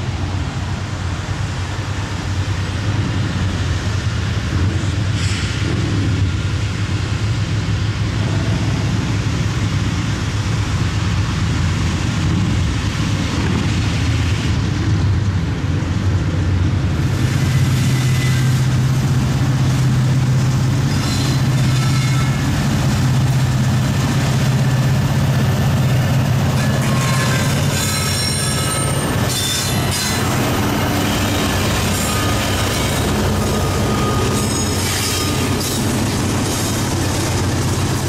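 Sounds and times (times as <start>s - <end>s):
diesel locomotive engine drone: 0.0s - 38.0s.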